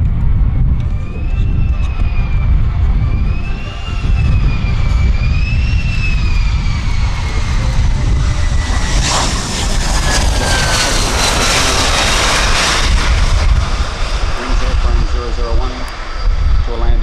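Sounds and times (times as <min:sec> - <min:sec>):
jet engine whine: 0:00.0 - 0:17.0
jet rushing roar: 0:00.0 - 0:17.0.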